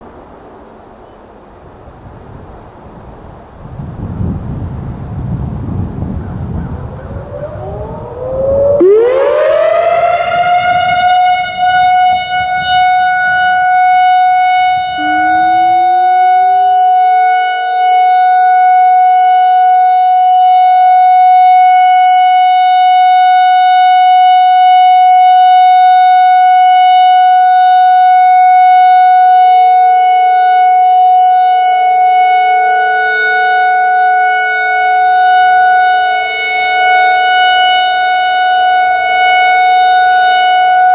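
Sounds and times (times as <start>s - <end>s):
lower siren tone: 4.5s - 40.9s
outdoor warning siren wailing: 4.5s - 40.9s.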